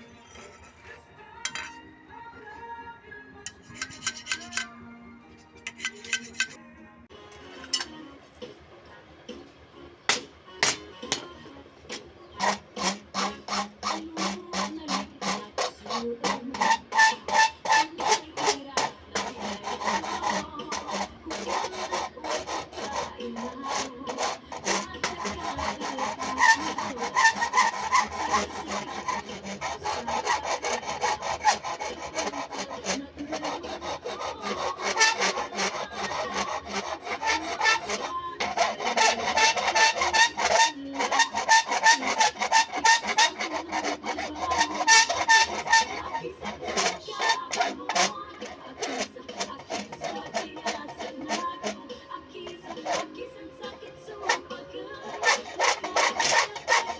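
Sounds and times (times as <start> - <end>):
hand file rasping on wood: 3.6 - 4.7, 11.9 - 56.9.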